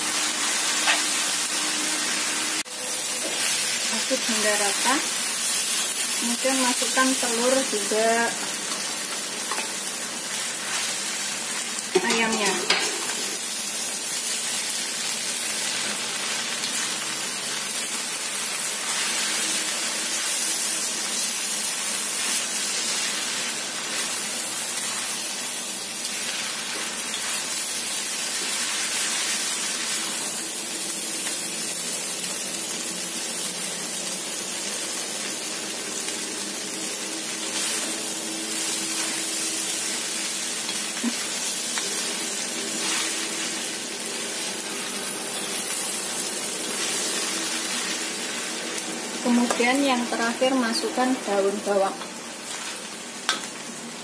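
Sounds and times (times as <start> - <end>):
noodles sizzling in a wok: 0.0 - 54.0
spatula stir-frying: 0.0 - 54.0.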